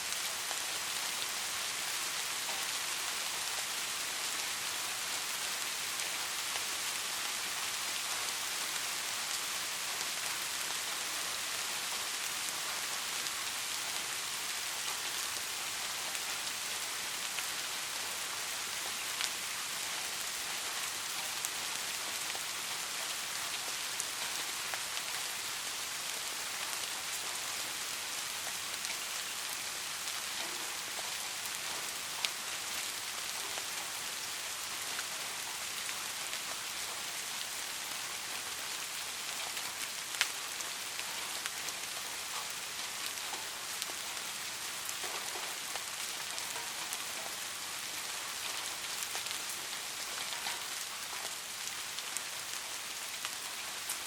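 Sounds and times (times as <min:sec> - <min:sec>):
soft rain falling: 0:00.0 - 0:54.0.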